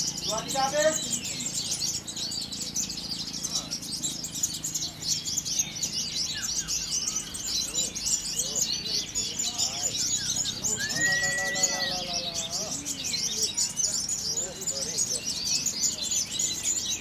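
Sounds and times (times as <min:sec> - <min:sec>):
lower short bird calls: 0:00.0 - 0:17.0
songbirds chirping and trilling: 0:00.0 - 0:17.0.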